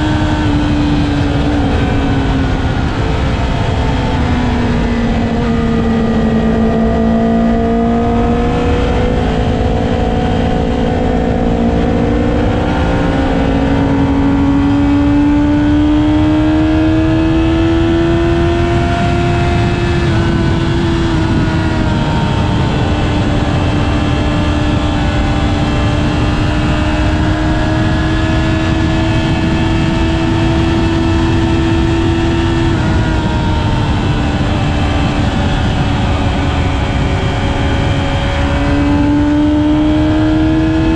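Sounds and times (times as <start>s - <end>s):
motorcycle engine at high revs: 0.0s - 40.9s
wind rushing: 0.0s - 40.9s.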